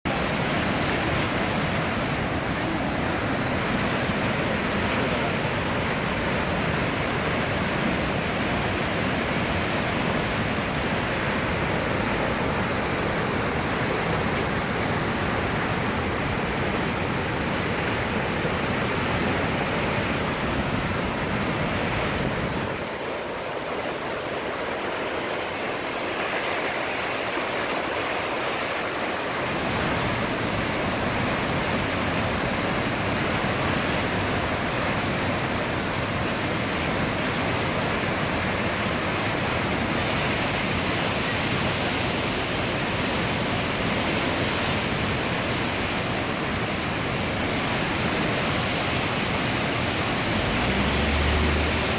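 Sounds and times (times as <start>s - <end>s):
river water rushing: 0.1s - 51.9s.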